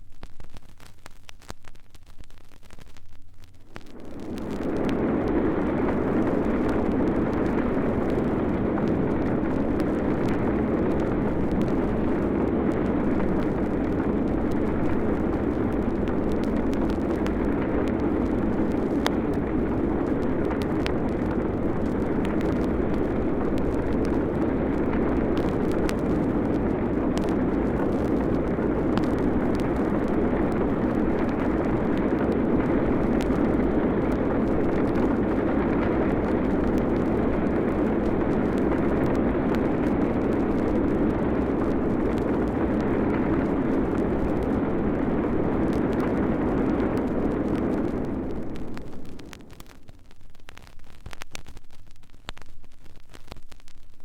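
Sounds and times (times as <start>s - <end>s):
vinyl record clicks: 0.0s - 54.0s
deep roaring rumble: 3.8s - 49.4s.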